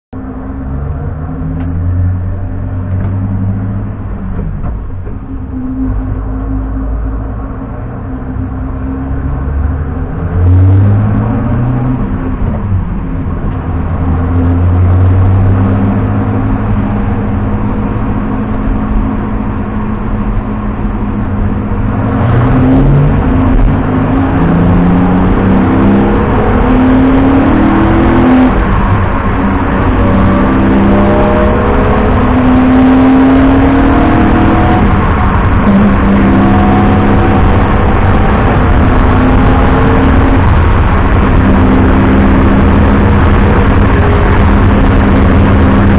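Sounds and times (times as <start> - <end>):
road noise: 0.1 - 45.9
car engine accelerating through gears: 0.2 - 45.9.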